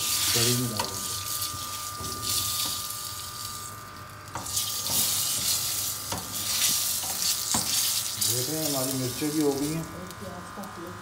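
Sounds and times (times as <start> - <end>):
hot oil sizzling in a frying pan: 0.0 - 10.8.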